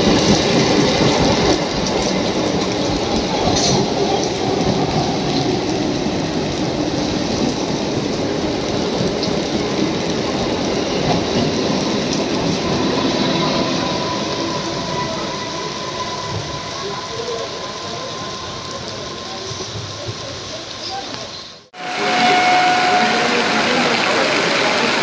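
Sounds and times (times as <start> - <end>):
heavy rain hissing: 0.0 - 25.0
train wheels rumbling on rails: 0.0 - 25.0.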